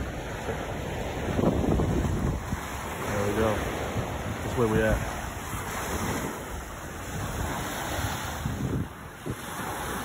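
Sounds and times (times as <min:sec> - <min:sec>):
small waves lapping on shore: 0:00.0 - 0:10.0
wind buffeting microphone: 0:00.0 - 0:10.0.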